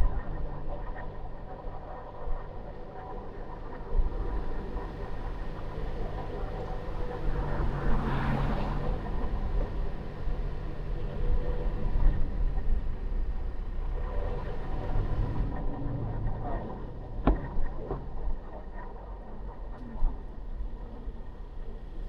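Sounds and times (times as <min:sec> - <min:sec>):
car engine and road noise: 0:00.1 - 0:22.0.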